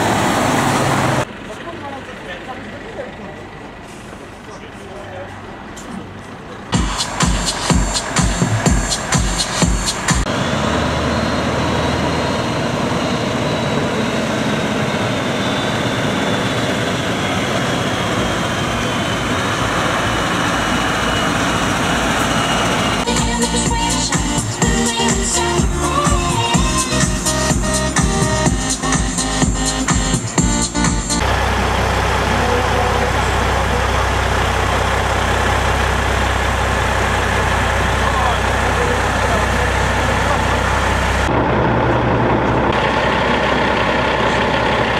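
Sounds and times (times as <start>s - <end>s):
loud engine noise with whine: 0.0s - 44.9s.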